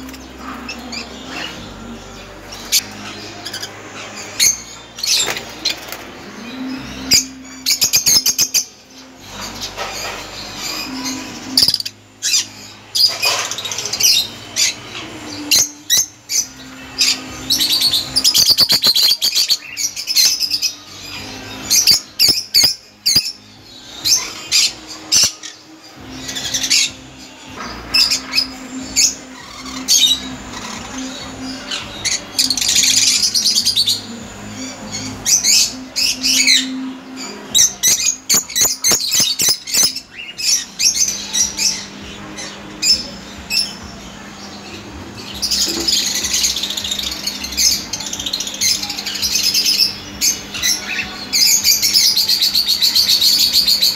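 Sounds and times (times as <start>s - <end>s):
lovebirds chirping and trilling: 0.0s - 53.9s.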